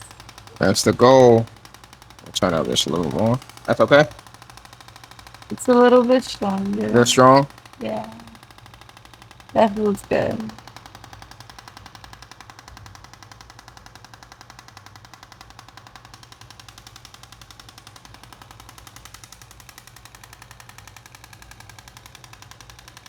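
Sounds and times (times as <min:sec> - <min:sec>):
rapid train of device clicks: 0:00.0 - 0:23.0.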